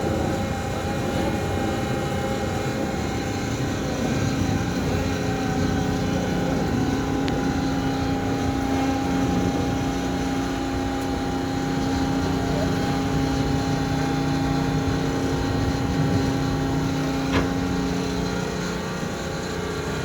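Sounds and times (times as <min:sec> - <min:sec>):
concrete mixer truck droning: 0:00.0 - 0:20.0.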